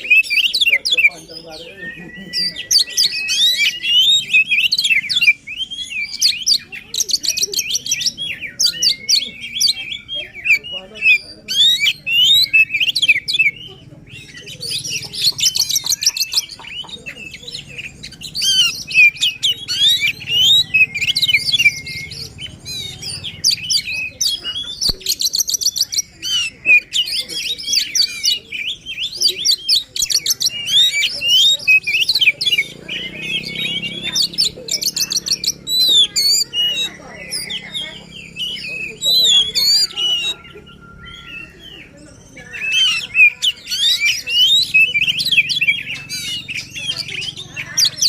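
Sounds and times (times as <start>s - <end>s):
bird singing whistled phrases: 0.0s - 48.0s.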